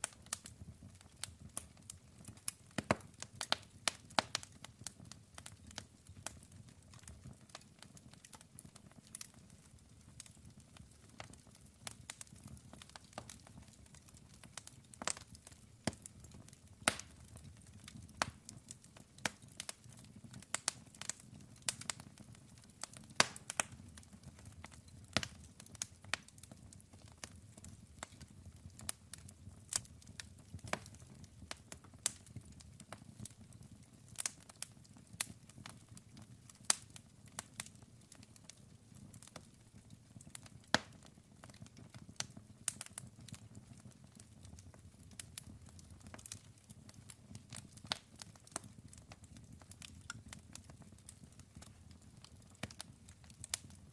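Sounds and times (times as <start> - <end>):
fire crackling and popping: 0.0 - 53.9
flames burning steadily: 0.0 - 53.9.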